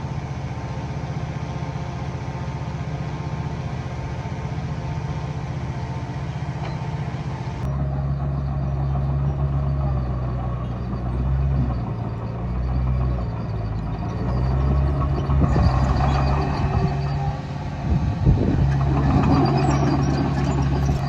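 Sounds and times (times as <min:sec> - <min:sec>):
heavy diesel engine working: 0:00.0 - 0:21.0.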